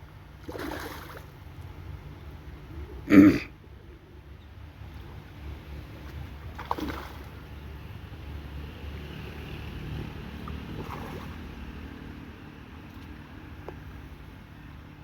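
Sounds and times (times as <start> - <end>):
flowing river water: 0.0 - 2.7, 4.6 - 15.0.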